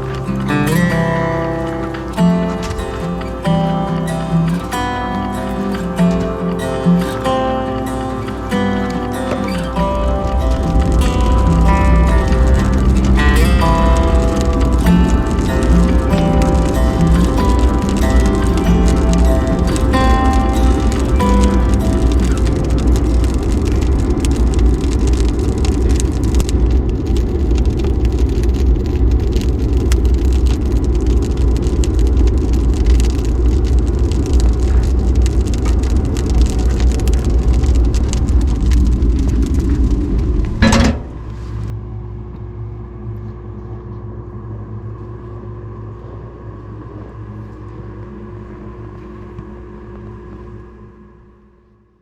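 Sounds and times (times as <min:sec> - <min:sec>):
garden tractor engine rumbling: 0:00.0 - 0:41.8
quiet hum: 0:00.0 - 0:52.0.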